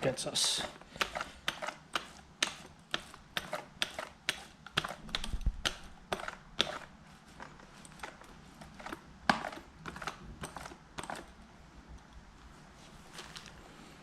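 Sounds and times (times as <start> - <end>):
paint roller rolling: 0.0 - 11.4.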